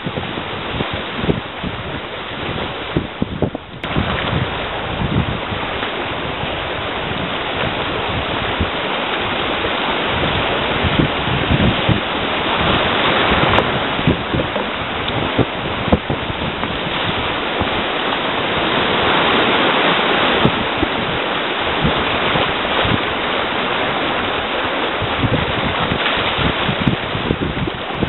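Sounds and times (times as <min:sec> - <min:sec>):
paddle strokes splashing canoe: 0:00.0 - 0:28.0
rushing whitewater rapids: 0:00.0 - 0:28.0
wind on microphone: 0:00.0 - 0:28.0.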